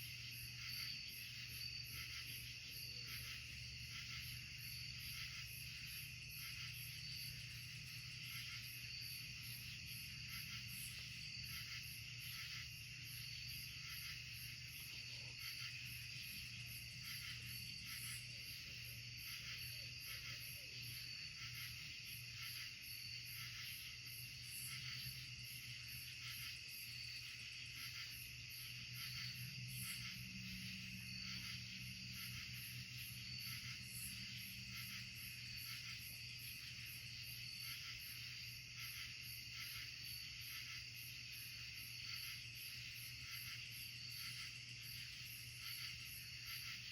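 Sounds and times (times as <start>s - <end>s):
fast pulsing insect trill: 0.0s - 46.9s.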